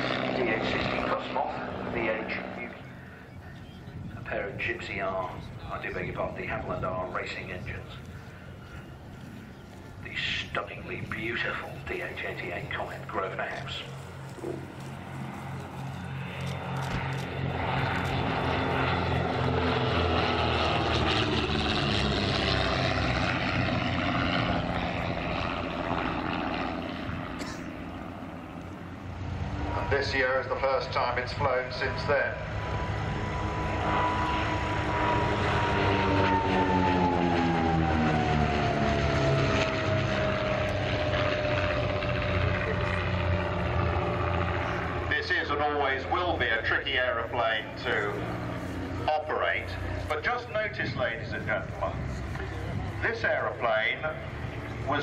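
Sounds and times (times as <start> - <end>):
propeller aircraft engines pulsing: 0.0 - 55.0.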